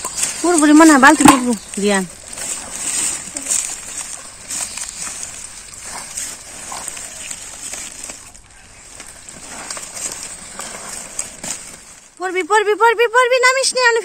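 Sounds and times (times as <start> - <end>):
water sloshing lightly: 0.0 - 12.2
leaves rustling: 0.0 - 14.0
small crackles: 0.0 - 14.0.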